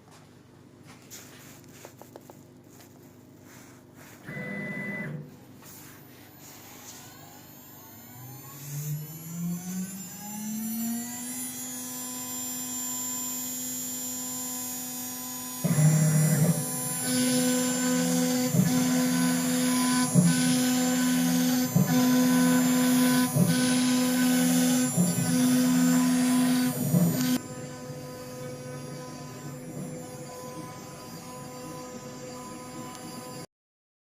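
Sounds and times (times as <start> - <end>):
router spindle whine: 3.5 - 33.5
rough machining noise: 5.6 - 33.5.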